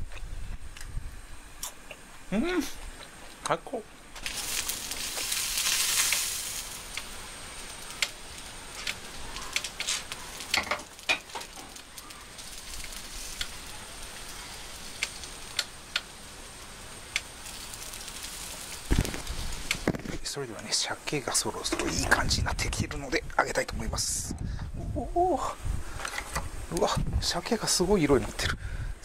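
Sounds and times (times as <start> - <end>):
hot pot sizzling and hissing: 0.2 - 29.0.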